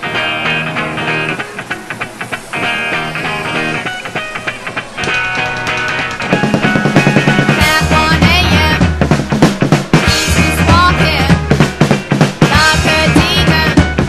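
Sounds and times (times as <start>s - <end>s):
rock music with drums bass and guitar: 0.0s - 14.0s.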